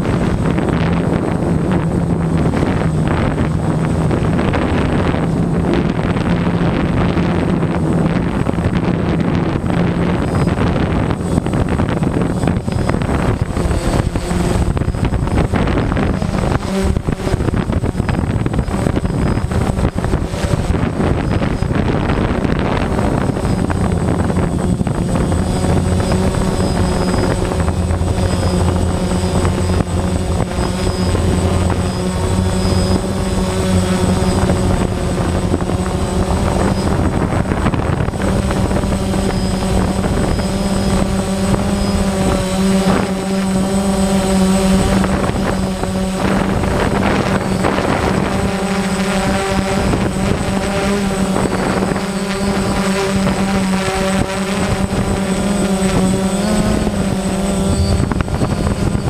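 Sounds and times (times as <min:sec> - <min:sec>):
steady low hum: 0:00.0 - 0:59.0
strong gusting wind on microphone: 0:00.0 - 0:59.0.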